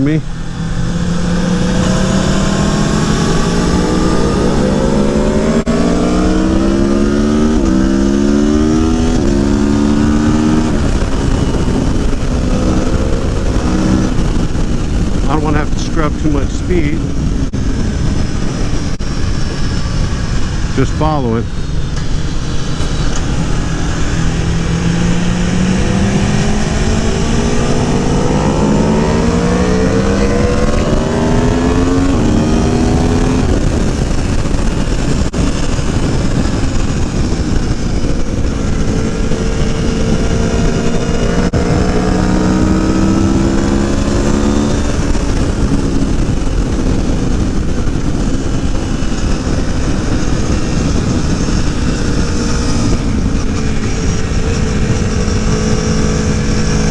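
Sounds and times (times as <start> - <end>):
motorcycle engine accelerating: 0.0 - 56.9
wind noise on camera: 0.0 - 56.9.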